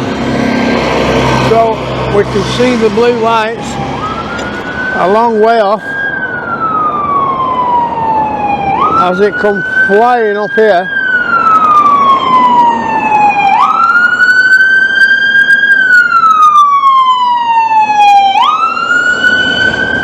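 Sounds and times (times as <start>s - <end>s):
ambulance siren wailing: 0.0s - 20.0s
traffic noise: 0.0s - 20.0s.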